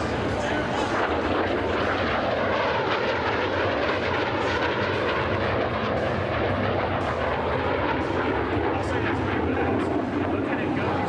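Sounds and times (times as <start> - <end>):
airplane engine passing: 0.0 - 11.0.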